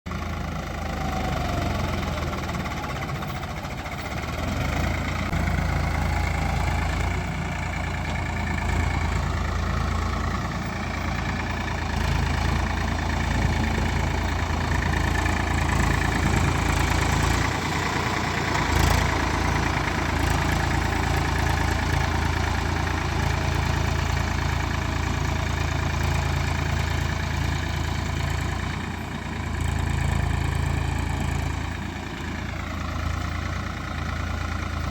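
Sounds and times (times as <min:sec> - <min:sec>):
tractor diesel engines running: 0:00.1 - 0:34.9.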